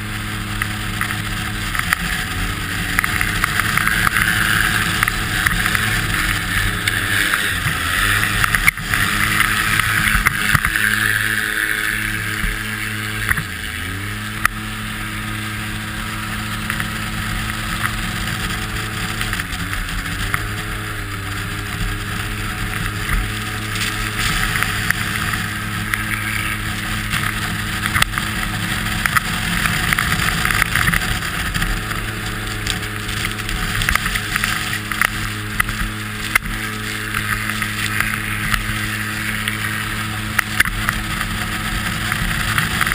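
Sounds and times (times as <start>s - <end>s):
engine running hard: 0.0s - 42.9s.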